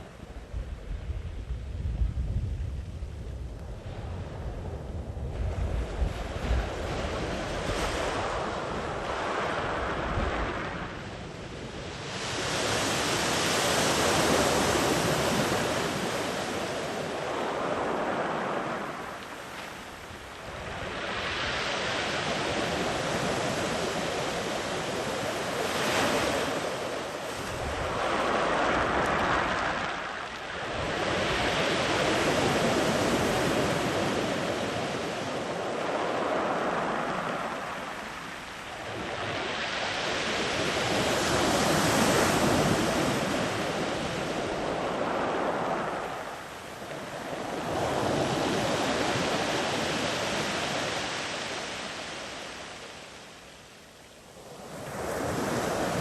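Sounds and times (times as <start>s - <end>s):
wind rumbling on microphone: 0.0s - 53.4s, 54.1s - 56.0s
sea waves washing ashore: 2.8s - 56.0s.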